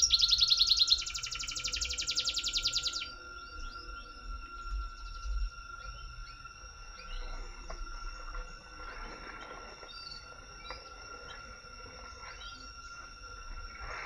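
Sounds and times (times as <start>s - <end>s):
bird chirps: 0.0s - 13.2s
insect drone: 0.0s - 14.0s.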